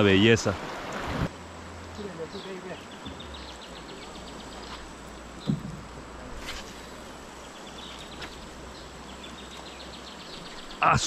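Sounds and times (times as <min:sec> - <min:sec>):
river rumble and hiss: 0:00.0 - 0:11.0.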